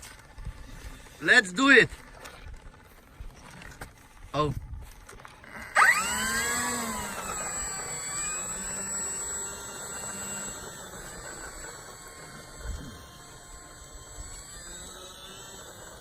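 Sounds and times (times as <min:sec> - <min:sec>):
electric model plane motor whine: 0:00.0 - 0:16.0.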